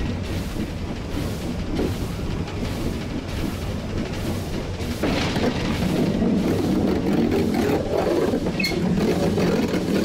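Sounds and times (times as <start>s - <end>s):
steam locomotive rumble and clatter: 0.0s - 10.0s.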